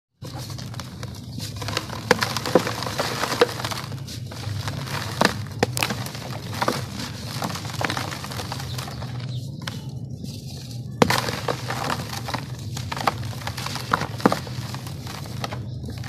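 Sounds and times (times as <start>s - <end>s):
sand and grit pouring: 0.2s - 16.0s
sand-cement balls crunching in hands: 0.2s - 16.0s
sharp cracks of chunks breaking: 0.3s - 9.9s, 11.0s - 16.0s.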